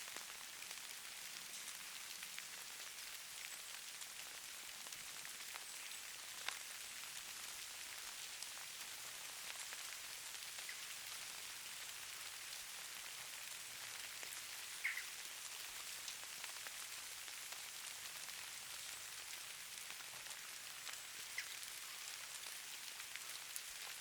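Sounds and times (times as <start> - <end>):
rain pattering on a surface: 0.0 - 24.0.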